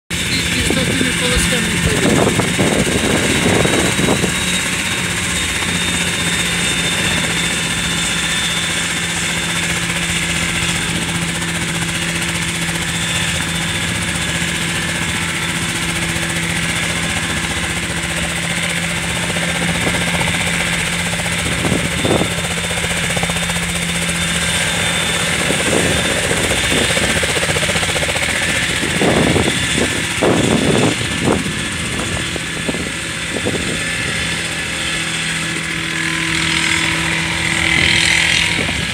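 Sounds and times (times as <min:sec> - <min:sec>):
model helicopter rotor whine: 0:00.1 - 0:38.9.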